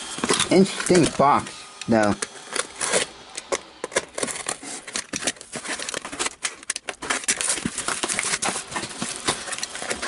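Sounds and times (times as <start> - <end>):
packaging crackling and rustling: 0.0 - 10.0.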